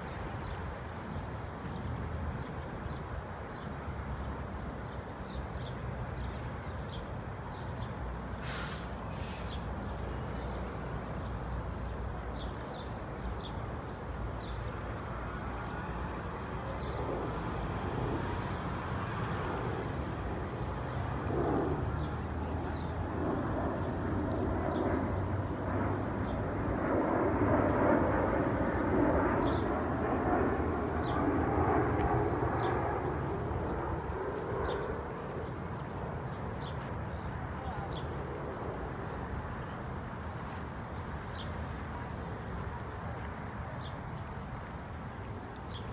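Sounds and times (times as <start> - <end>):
distant traffic rumble: 0.0 - 45.9.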